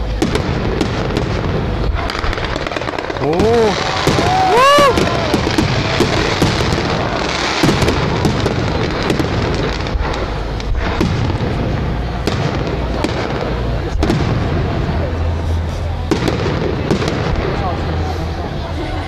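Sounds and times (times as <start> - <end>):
fireworks bangs: 0.0 - 19.0
fireworks crackling: 0.0 - 19.0
fireworks popping: 0.0 - 19.0.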